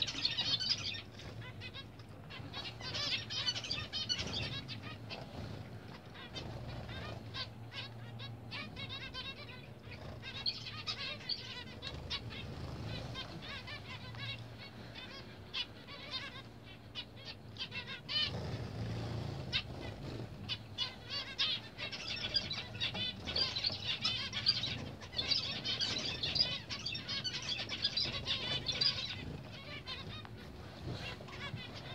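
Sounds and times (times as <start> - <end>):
finches calling and singing: 0.0 - 31.9.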